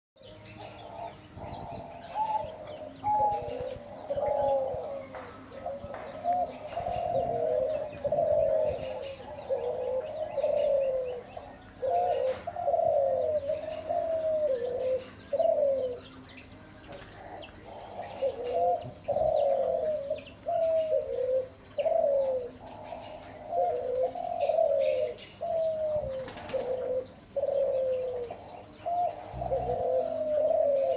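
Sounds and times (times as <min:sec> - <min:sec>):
dove cooing: 0:00.2 - 0:30.9
small birds chirping: 0:00.2 - 0:30.9.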